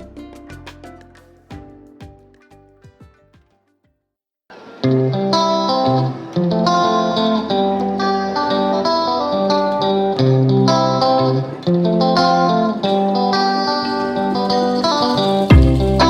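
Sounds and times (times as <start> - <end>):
plucked guitar melody: 0.0 - 3.7, 4.8 - 16.0.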